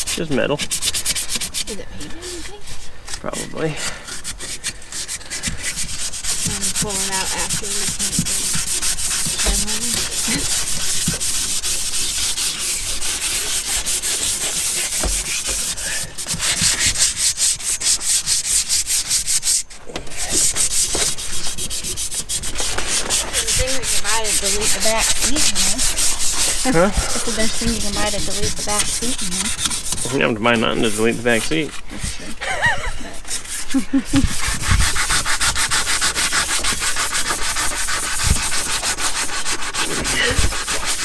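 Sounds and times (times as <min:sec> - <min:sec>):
hand sanding strokes: 0:00.0 - 0:41.0.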